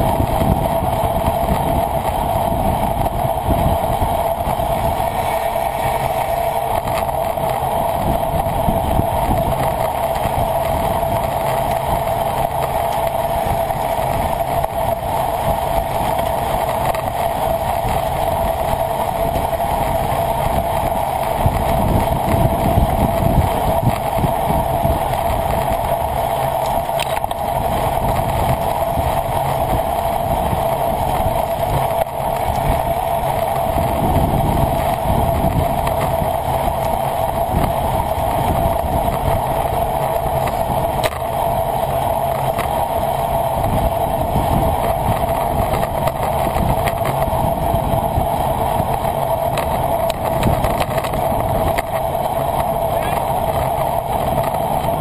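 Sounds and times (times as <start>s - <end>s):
buffeting wind rumble: 0.0s - 55.0s
road noise: 0.0s - 55.0s
wind rush on camera: 0.0s - 55.0s.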